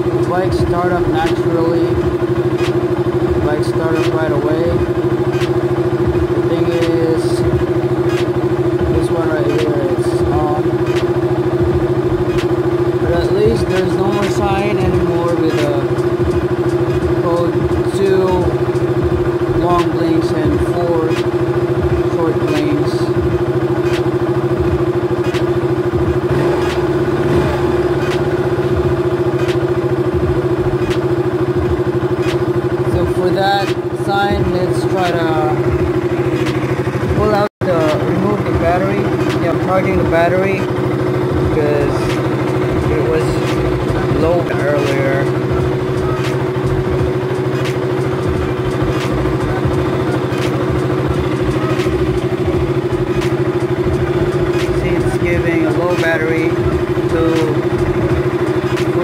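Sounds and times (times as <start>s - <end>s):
motorcycle engine idling: 0.0s - 59.0s
sharp ticks: 1.1s - 12.7s, 13.3s - 26.9s, 27.9s - 37.1s, 38.4s - 59.0s.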